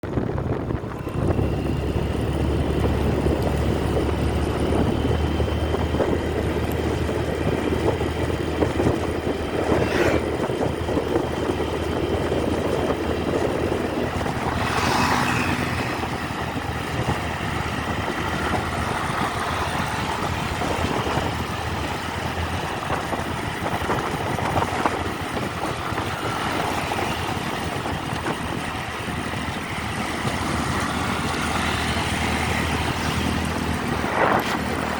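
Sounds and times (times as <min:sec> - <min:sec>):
motorcycle engine drone: 0:00.0 - 0:34.9
road and wind noise: 0:00.0 - 0:34.9.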